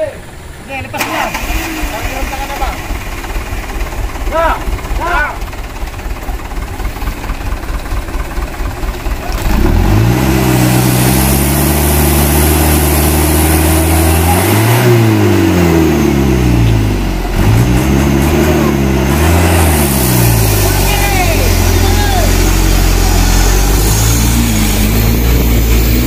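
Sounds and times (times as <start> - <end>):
diesel truck engine revving: 0.9 - 26.0.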